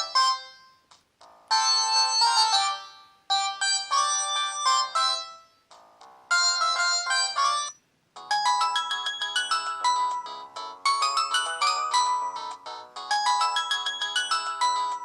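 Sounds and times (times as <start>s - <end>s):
phone ringtone melody: 0.0s - 15.0s.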